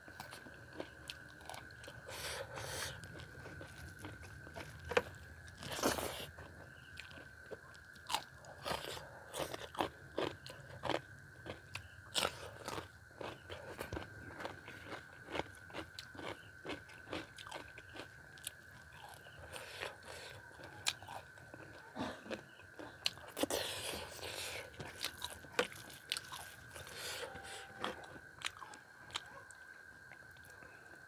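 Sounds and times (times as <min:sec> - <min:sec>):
chewing rice with wet smacks: 0:00.0 - 0:30.7.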